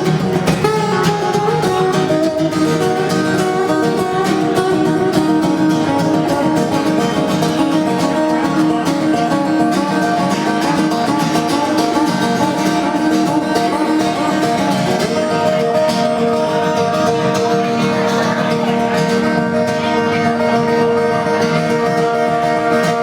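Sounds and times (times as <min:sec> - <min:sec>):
acoustic guitar strummed and picked: 0:00.0 - 0:23.0.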